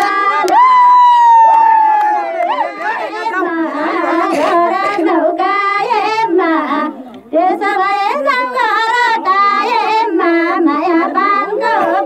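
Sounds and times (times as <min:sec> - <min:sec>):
women singing folk song: 0:00.0 - 0:01.1, 0:02.5 - 0:12.0.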